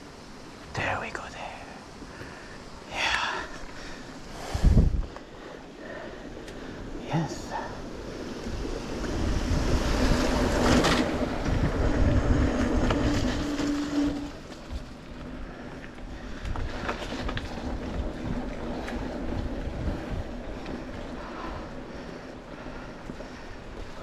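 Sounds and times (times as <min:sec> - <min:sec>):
bicycle rattling on rough trail: 0:02.0 - 0:24.0
wind buffeting microphone: 0:03.0 - 0:24.0.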